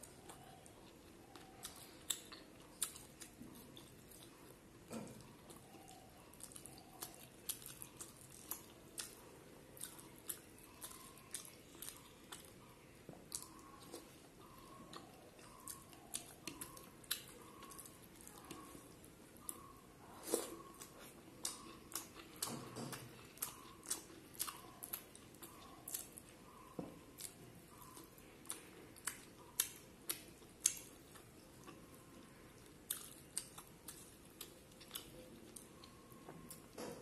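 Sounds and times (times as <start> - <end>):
person chewing with mouth smacks: 0.0 - 36.8.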